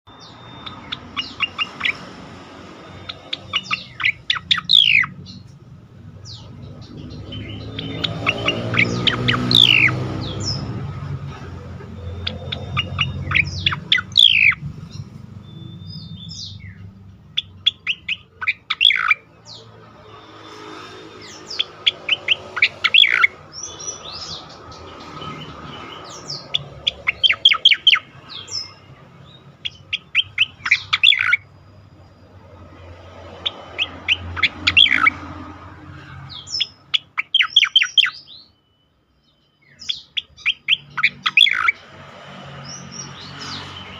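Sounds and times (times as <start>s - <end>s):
bird singing whistled notes: 0.1s - 2.2s, 2.8s - 5.5s, 6.2s - 10.8s, 11.9s - 20.4s, 21.2s - 32.4s, 33.3s - 35.2s, 36.2s - 41.8s.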